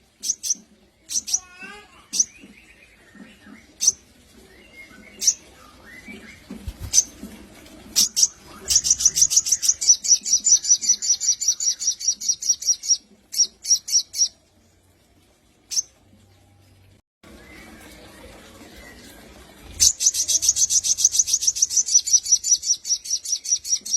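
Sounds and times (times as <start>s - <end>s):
bird chirping and trilling: 0.2s - 7.2s, 8.0s - 14.4s, 15.7s - 16.0s, 17.3s - 23.9s.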